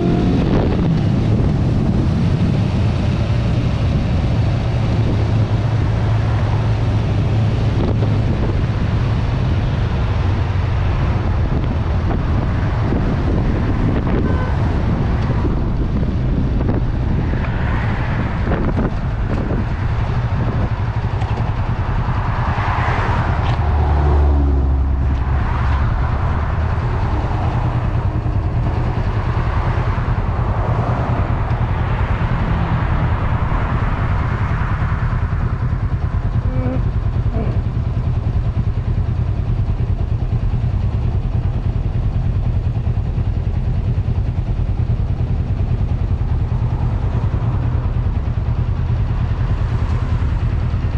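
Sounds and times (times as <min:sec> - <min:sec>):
motorcycle engine running: 0:00.0 - 0:50.9
wind buffeting microphone: 0:00.0 - 0:50.9.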